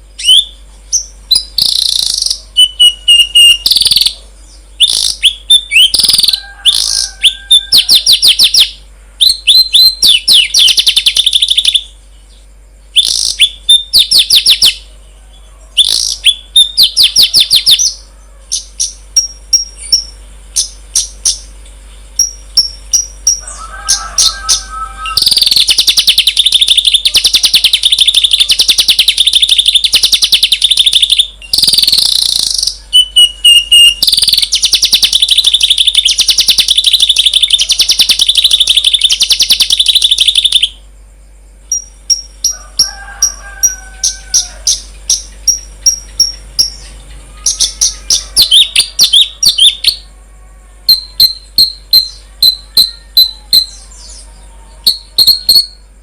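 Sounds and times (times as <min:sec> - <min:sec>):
songbird chirping trills: 0:00.0 - 0:56.0.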